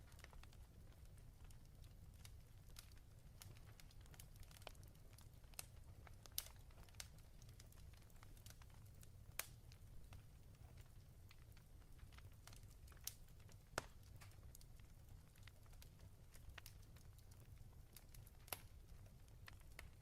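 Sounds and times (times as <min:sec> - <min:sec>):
fire low rumble: 0:00.0 - 0:20.0
fire pops and snaps: 0:00.0 - 0:20.0.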